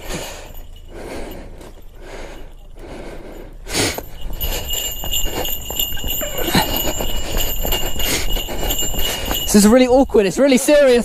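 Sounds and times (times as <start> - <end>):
high-pitched ringing bells: 0.0 - 11.0.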